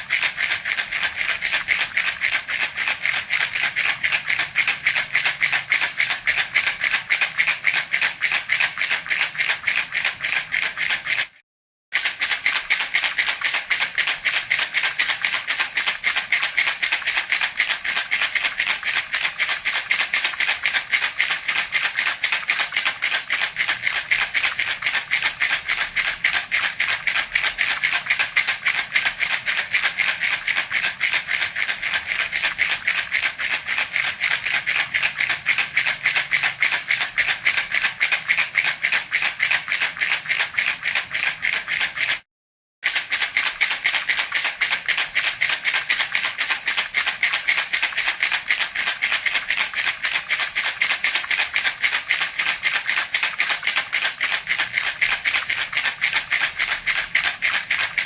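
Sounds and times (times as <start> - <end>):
baby rattle shaken: 0.0 - 11.4, 12.0 - 42.2, 42.8 - 58.0.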